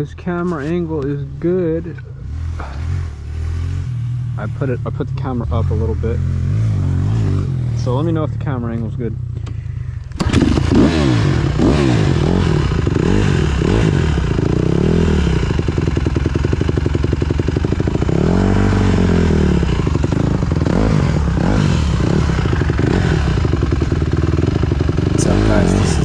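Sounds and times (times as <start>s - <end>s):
bike rattle: 0.0s - 13.8s, 15.6s - 26.0s
dirt bike engine revving: 0.0s - 26.0s.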